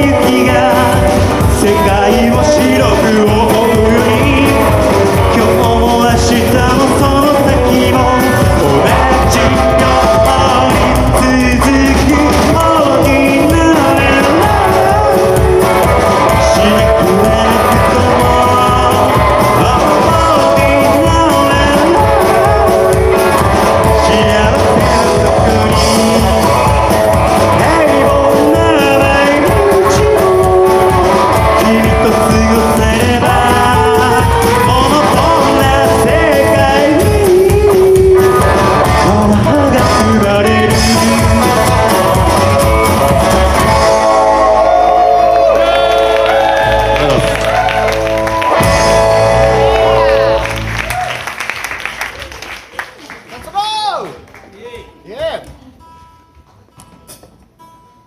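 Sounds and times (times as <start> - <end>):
person singing: 0.0 - 51.1
rockabilly band playing live: 0.0 - 57.6.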